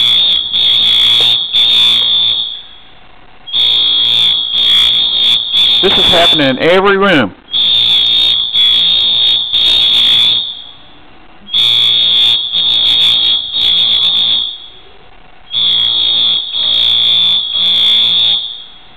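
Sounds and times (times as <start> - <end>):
fire alarm beeping: 0.0 - 18.9.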